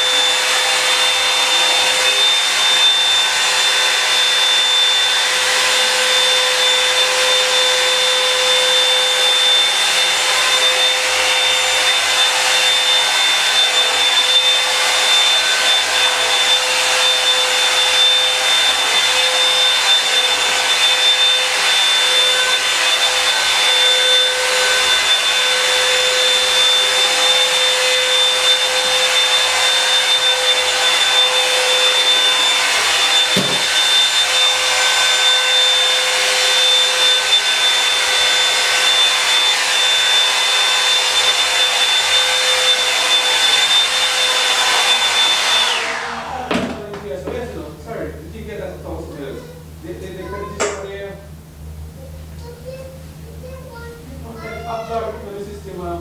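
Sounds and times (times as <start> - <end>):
hot-air brush motor whining: 0.0 - 56.0.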